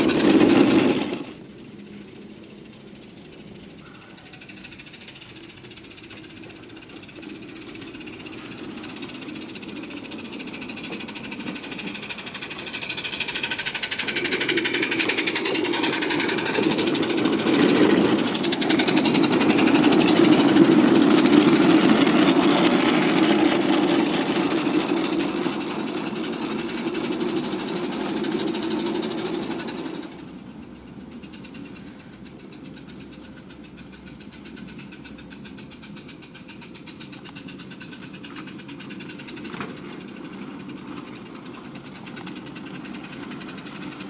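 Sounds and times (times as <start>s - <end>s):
model steam locomotive chuffing: 0.0s - 44.0s.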